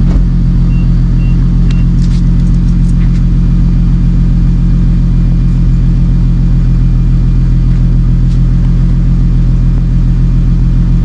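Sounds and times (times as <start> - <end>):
car exhaust idling: 0.0 - 11.0.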